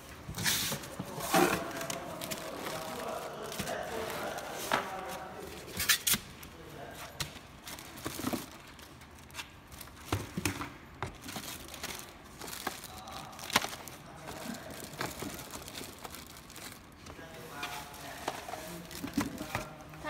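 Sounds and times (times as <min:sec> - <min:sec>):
plastic wrapping crinkling: 0:00.4 - 0:20.0.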